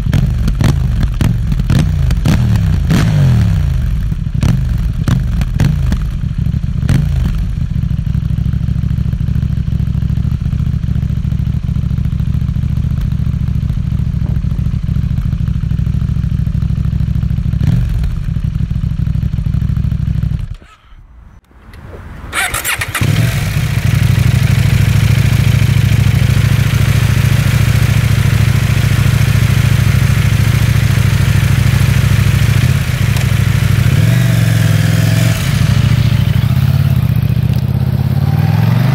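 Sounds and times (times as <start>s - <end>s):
motorcycle engine idling: 0.0s - 3.0s, 3.6s - 21.4s, 22.3s - 38.9s
motorcycle engine starting: 0.0s - 38.9s.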